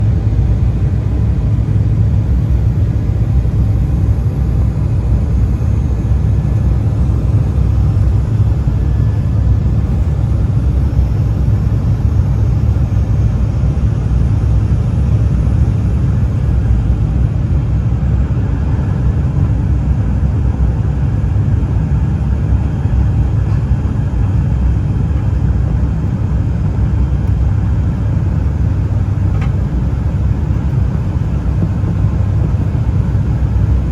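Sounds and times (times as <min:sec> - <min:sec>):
jet cabin rumble: 0:00.0 - 0:33.9.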